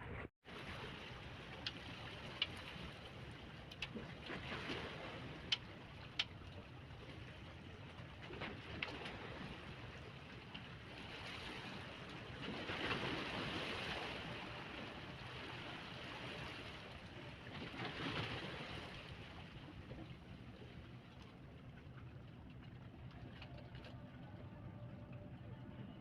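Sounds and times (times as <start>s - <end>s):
sea water rushing and splashing: 0.0s - 26.0s.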